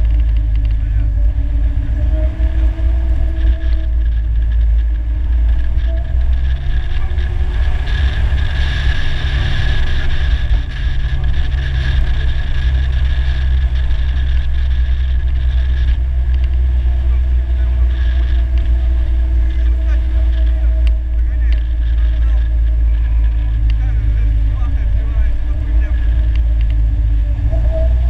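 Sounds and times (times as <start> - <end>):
vehicle engine cruising: 0.0 - 28.0
wind rumble on microphone: 0.0 - 28.0.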